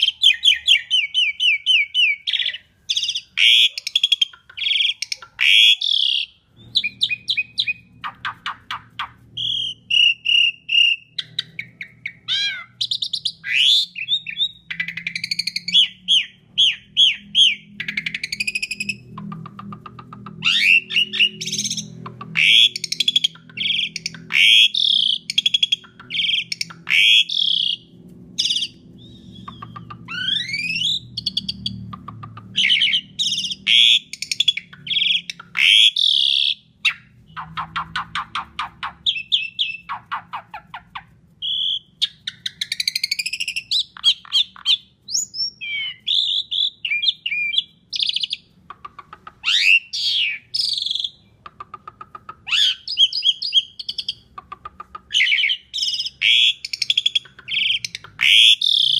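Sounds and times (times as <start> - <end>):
starling singing: 0.0 - 58.9.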